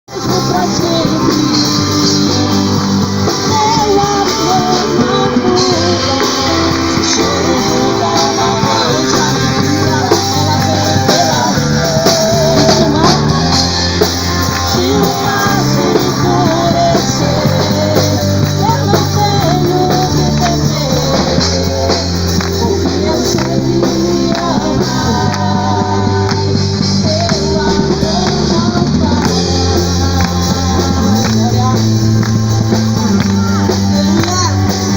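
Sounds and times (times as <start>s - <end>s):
band playing worship music: 0.1s - 34.9s
voices singing: 0.1s - 34.9s.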